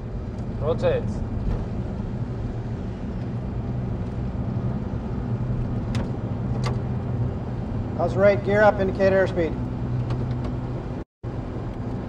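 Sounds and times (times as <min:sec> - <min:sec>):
jet engines and airflow rumble: 0:00.0 - 0:12.0
low hum: 0:00.0 - 0:12.0.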